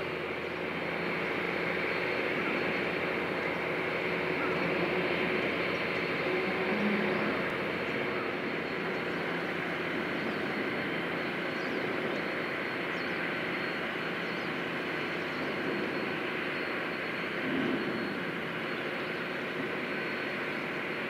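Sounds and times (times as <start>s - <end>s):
faint held whine: 0.0s - 21.0s
ship turbine rumble and hum: 0.0s - 21.0s.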